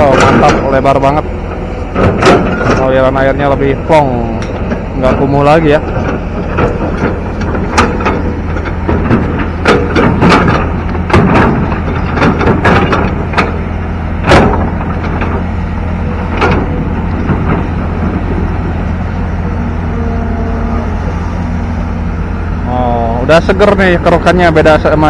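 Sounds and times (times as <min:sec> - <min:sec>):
knocks and clanks: 0:00.0 - 0:21.3
excavator diesel engine running: 0:00.0 - 0:25.0.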